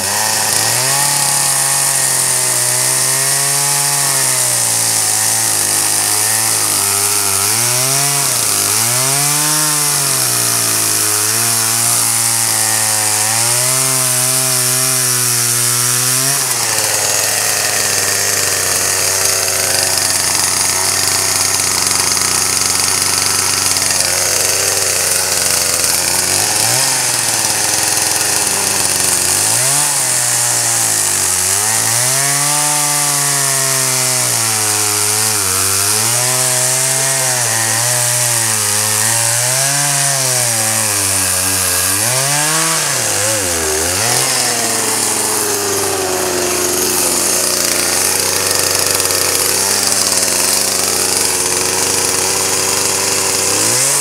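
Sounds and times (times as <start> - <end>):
chainsaw chain hissing: 0.0 - 54.0
chainsaw cutting wood: 0.0 - 54.0.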